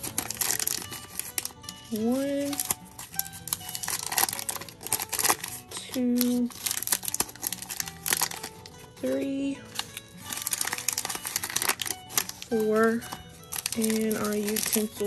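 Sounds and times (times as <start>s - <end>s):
foil packets crinkling: 0.0s - 15.0s
soft background music: 0.0s - 15.0s.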